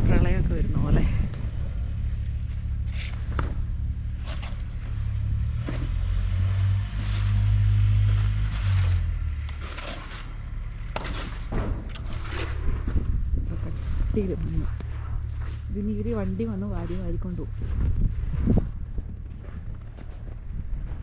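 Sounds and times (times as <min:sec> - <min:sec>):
vehicle engine rumbling: 0:00.0 - 0:21.0
short crunches and scrapes: 0:02.4 - 0:21.0.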